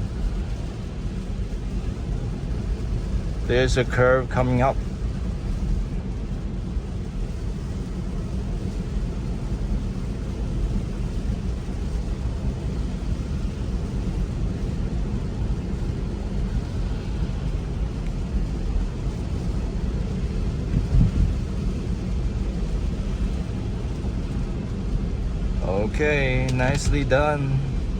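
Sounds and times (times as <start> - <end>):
tyre road rumble in car cabin: 0.0 - 27.9.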